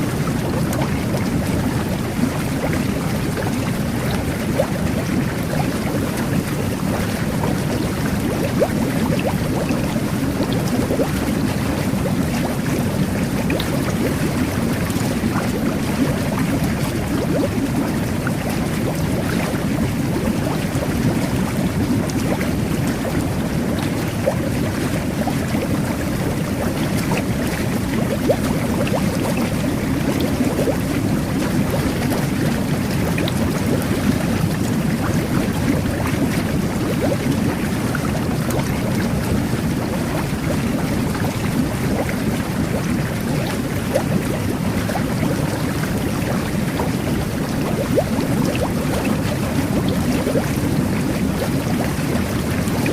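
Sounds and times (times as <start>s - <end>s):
jet bath water bubbling: 0.0s - 52.9s.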